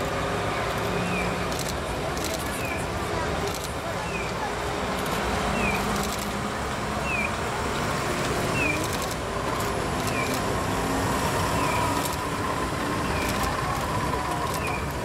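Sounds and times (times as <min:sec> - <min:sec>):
heavy truck engines and tyres: 0:00.0 - 0:15.0.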